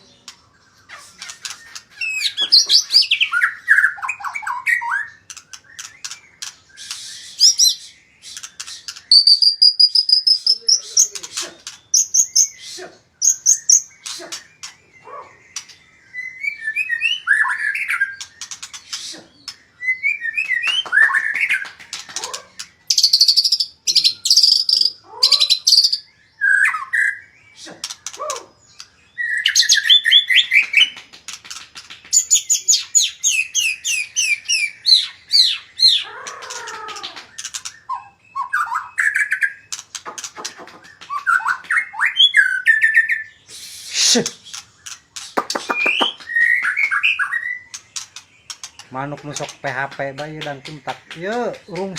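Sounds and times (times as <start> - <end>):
bird singing whistled song: 0.8 - 31.0, 32.1 - 36.1, 37.4 - 39.8, 41.0 - 47.8.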